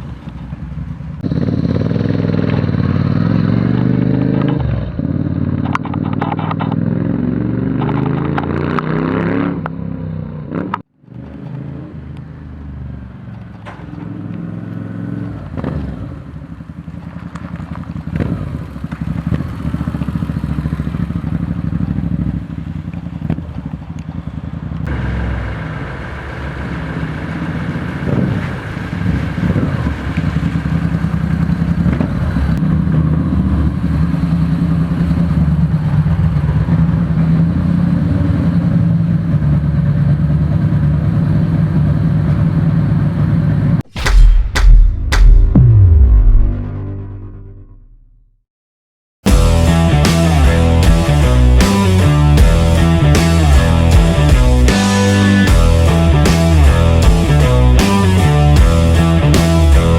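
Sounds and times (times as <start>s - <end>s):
motorcycle engine revving: 1.2s - 40.8s, 43.8s - 48.2s, 49.3s - 59.9s.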